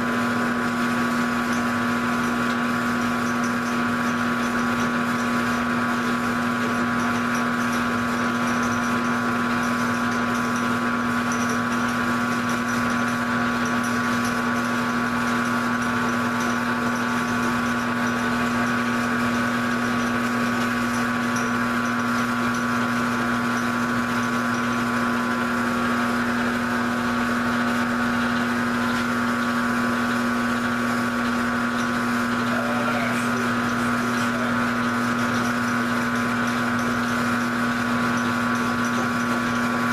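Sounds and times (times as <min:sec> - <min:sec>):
milling machine motor humming: 0:00.0 - 0:39.9.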